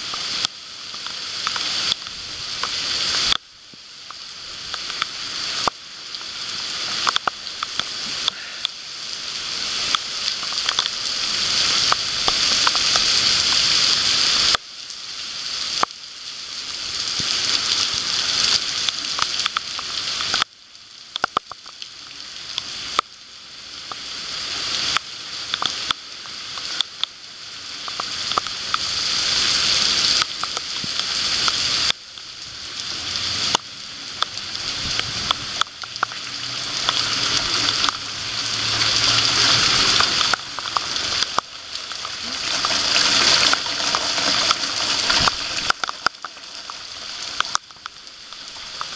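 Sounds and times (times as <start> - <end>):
raindrops tapping close by: 0.0 - 23.2, 23.8 - 48.9
heavy rain falling: 0.0 - 48.9.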